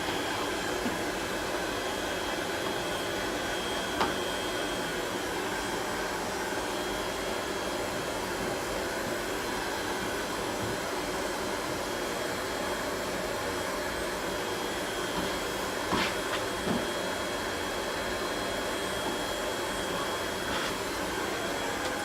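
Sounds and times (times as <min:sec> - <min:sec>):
air machine whooshing hum: 0:00.0 - 0:22.0.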